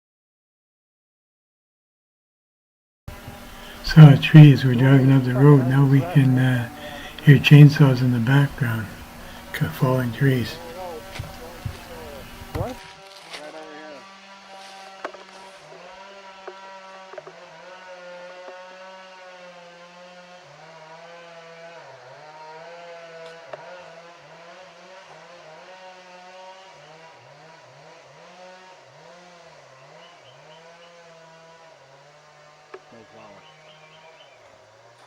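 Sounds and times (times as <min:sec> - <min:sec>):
chainsaw cutting at high revs: 0:03.1 - 0:35.0.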